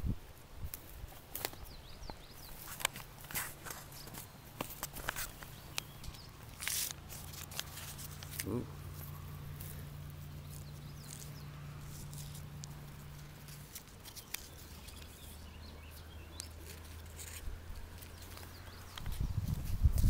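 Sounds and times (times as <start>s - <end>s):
rustling over dry leaves and twigs: 0.0s - 20.0s
steady low hum: 3.1s - 20.0s.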